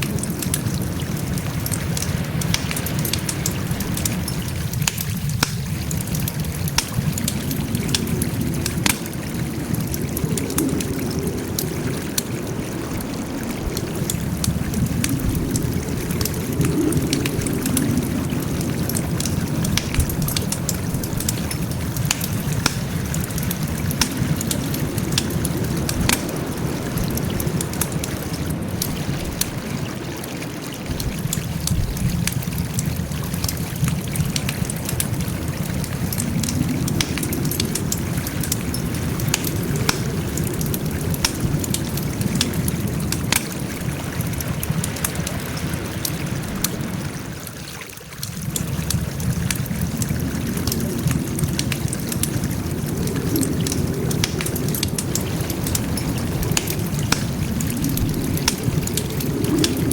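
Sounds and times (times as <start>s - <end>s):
burning wood crackling and popping: 0.0s - 47.5s, 48.2s - 59.9s
low rush of flames: 0.0s - 47.6s, 48.2s - 59.9s.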